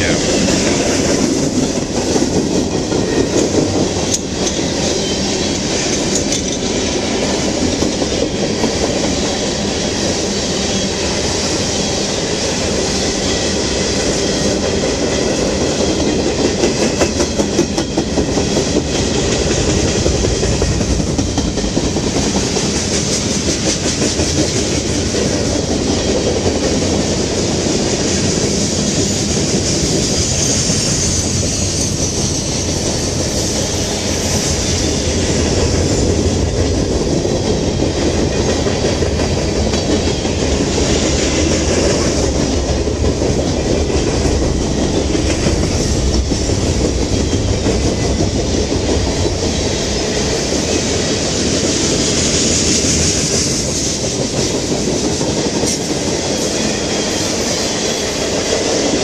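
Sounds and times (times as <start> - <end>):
freight train rumbling by: 0.0 - 59.0.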